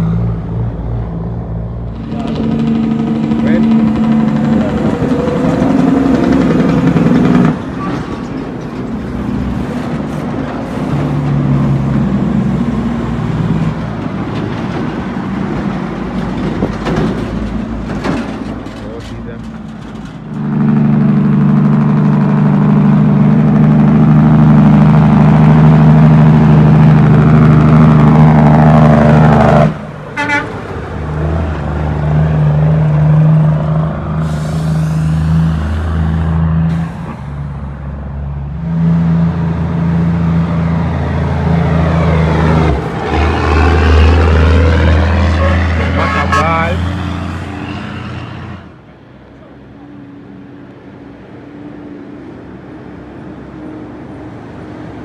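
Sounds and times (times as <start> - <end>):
heavy diesel trucks driving past: 0.0 - 55.0.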